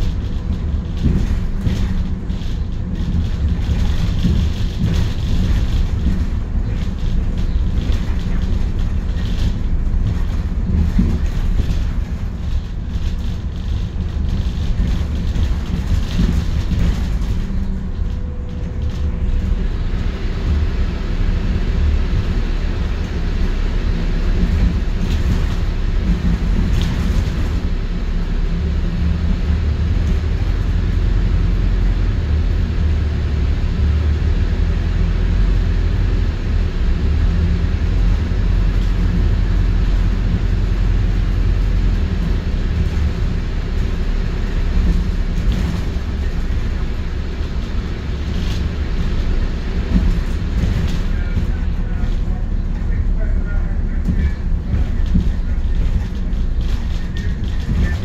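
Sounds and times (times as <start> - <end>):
bus engine drone: 0.0 - 58.0
road rumble: 0.0 - 58.0.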